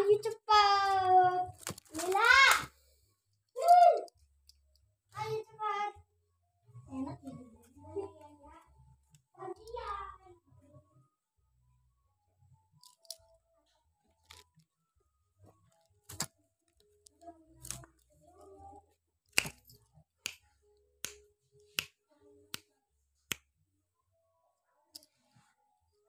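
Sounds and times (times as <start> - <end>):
faint soft sounds: 0.6 - 26.0.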